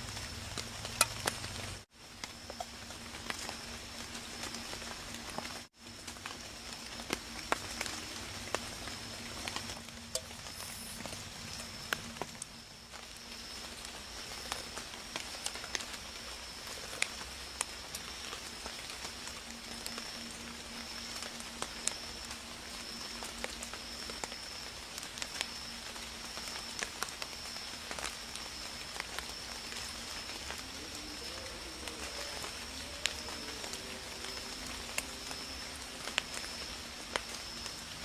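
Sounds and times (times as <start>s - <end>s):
insect drone: 0.0s - 38.0s
sharp crackles and clicks: 0.0s - 38.0s
soft hiss: 0.0s - 38.0s.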